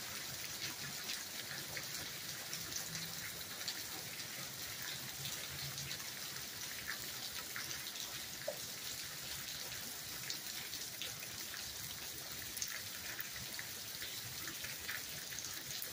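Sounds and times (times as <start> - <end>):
rain on gravel and puddles: 0.0 - 15.9.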